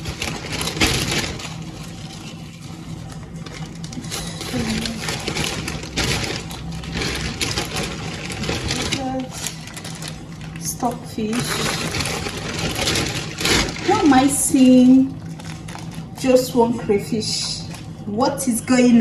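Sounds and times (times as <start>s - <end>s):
packaging rustling: 0.0s - 16.8s
steady low hum: 0.0s - 19.0s.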